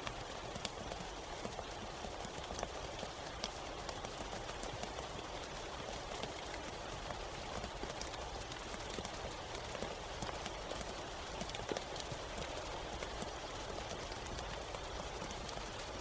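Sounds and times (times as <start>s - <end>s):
rain drops tapping on hard surface: 0.0s - 16.0s.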